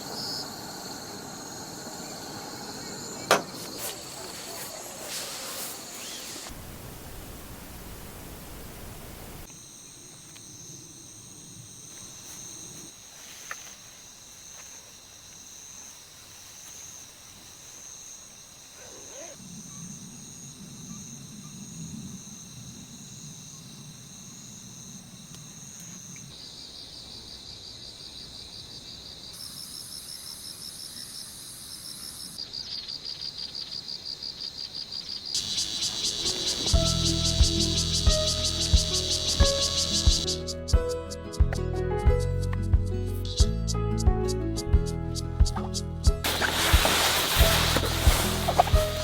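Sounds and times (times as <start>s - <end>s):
insects chirping and trilling: 0.0s - 41.2s, 45.6s - 49.0s.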